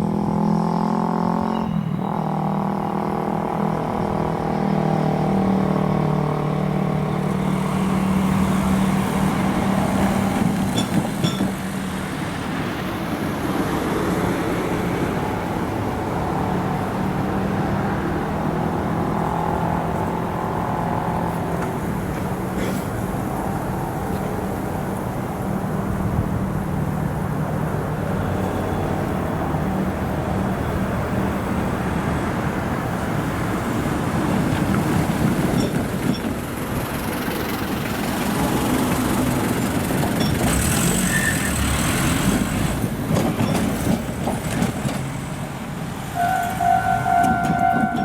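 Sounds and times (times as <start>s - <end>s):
electric train wheels on rails: 0.0s - 48.0s.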